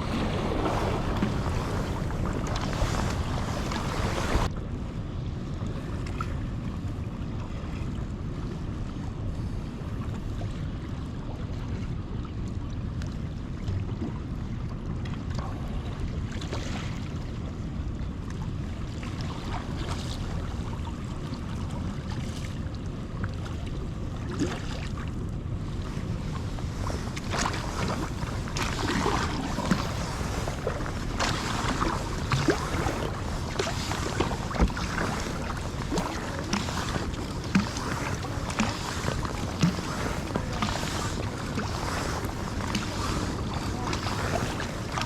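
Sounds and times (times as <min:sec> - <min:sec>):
wind buffeting microphone: 0:00.0 - 0:22.0, 0:22.9 - 0:45.0
water splashing around kayak: 0:00.0 - 0:45.0.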